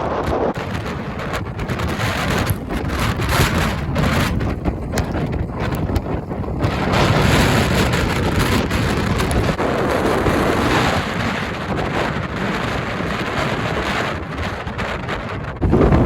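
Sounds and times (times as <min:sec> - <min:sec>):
wind gusts buffeting microphone: 0:00.0 - 0:16.0.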